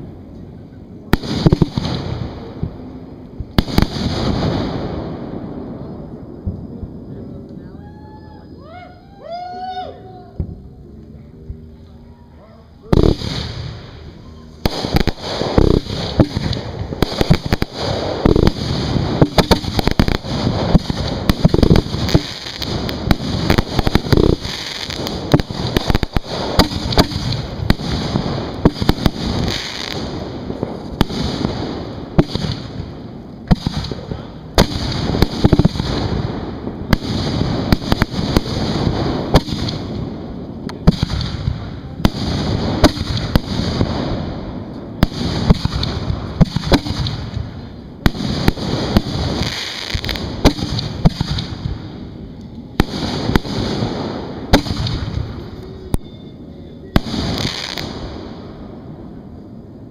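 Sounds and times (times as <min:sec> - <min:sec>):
fireworks launching and bursting: 0:01.1 - 0:06.9, 0:12.9 - 0:56.2, 0:56.9 - 0:59.9.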